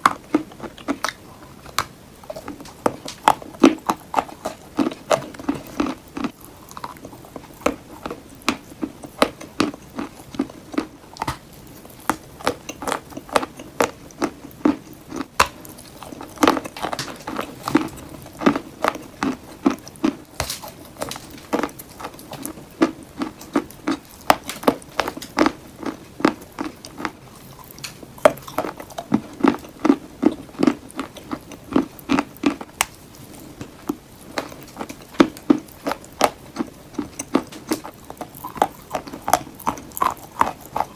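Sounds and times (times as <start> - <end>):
chalk crunching being chewed: 0.0 - 40.9.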